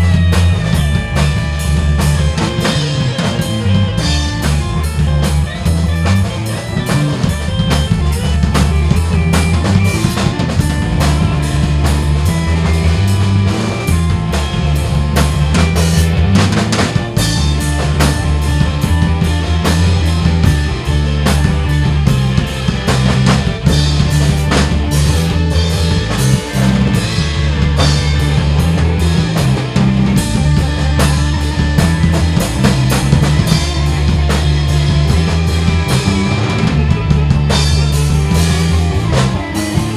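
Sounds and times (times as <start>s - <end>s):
drum kit beat: 0.0s - 39.9s
electric bass line: 0.0s - 39.9s
organ: 0.0s - 39.9s.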